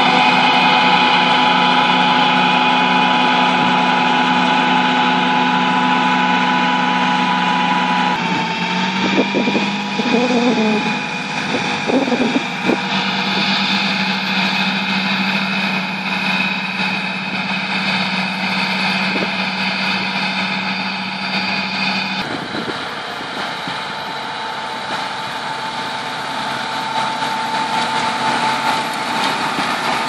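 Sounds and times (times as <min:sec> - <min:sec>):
tractor engine running under load: 0:00.0 - 0:30.0.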